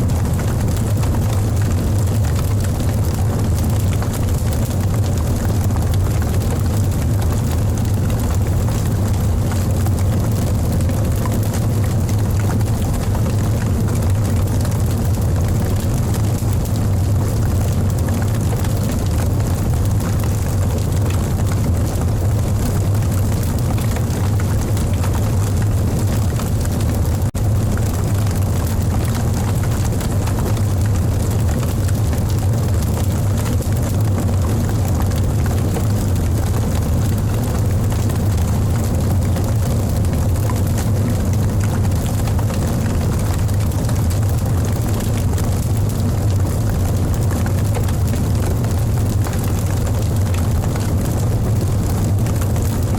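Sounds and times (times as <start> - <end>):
fire rumbling: 0.0 - 52.9
wood crackling and snapping: 0.1 - 52.9.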